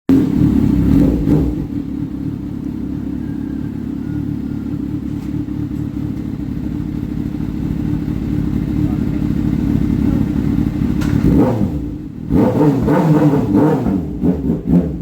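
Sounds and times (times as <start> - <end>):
motorcycle engine idling: 0.1 - 12.3.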